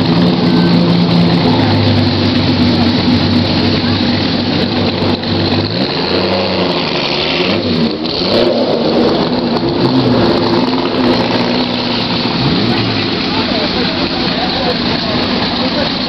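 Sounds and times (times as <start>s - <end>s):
racing car engine revving: 0.0s - 16.0s
racing car engines idling: 0.0s - 16.0s.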